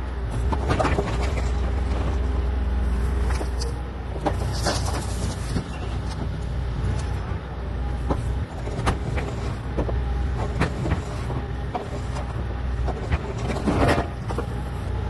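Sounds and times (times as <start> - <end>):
excavator clanks and knocks: 0.0 - 15.0
excavator diesel engine running: 0.0 - 15.0.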